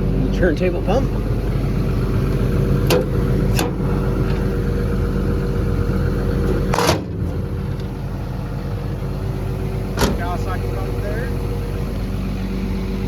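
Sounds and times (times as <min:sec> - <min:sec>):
diesel excavator engine idling: 0:00.0 - 0:13.0.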